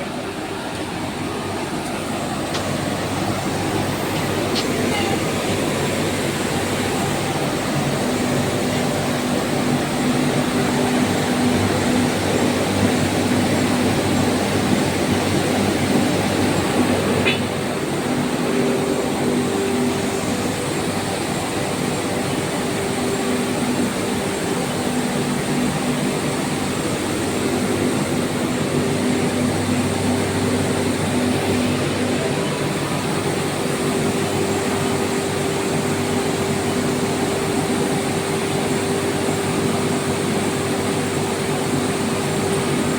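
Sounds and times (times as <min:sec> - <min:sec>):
air compressor humming and hissing: 0:00.0 - 0:42.9.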